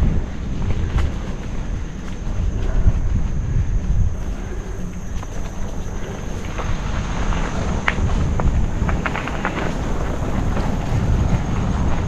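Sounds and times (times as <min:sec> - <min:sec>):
bike clicks and rattles: 0:00.0 - 0:12.0
wind and tyres rumbling: 0:00.0 - 0:12.0.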